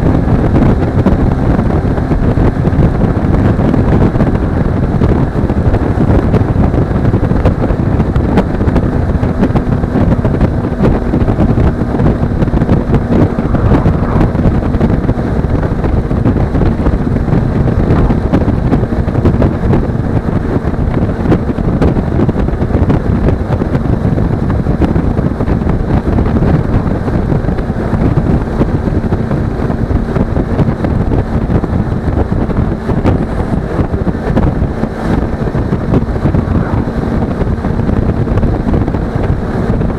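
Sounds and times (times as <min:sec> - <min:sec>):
motorcycle engine droning: 0:00.0 - 0:39.9
wind buffeting microphone: 0:00.0 - 0:39.9.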